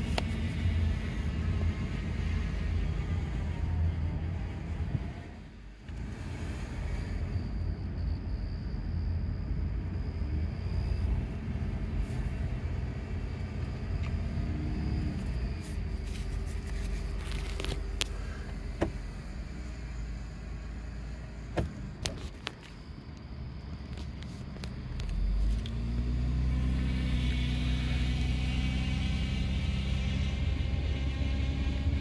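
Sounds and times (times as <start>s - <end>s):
car engine rumble in cabin: 0.0s - 32.0s.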